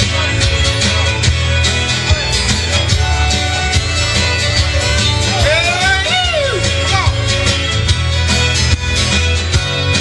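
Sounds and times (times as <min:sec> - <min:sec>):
country music with guitar: 0:00.0 - 0:10.0.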